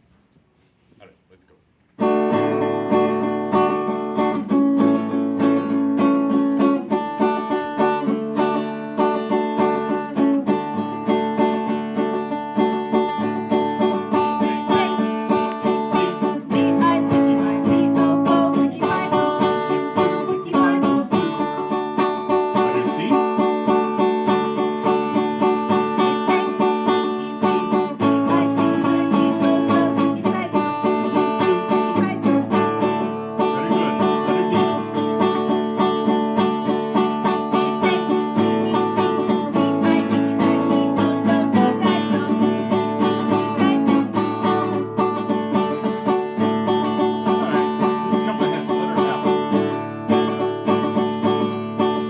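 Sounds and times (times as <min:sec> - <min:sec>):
picked banjo notes: 0:02.0 - 0:52.0.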